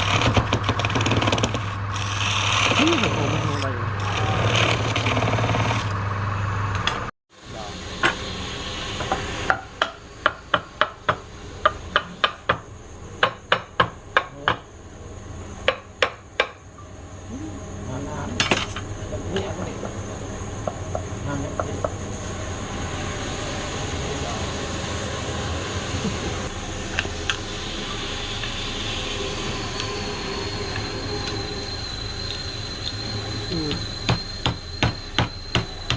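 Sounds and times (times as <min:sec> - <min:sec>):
woodturning lathe running: 0:00.0 - 0:35.9.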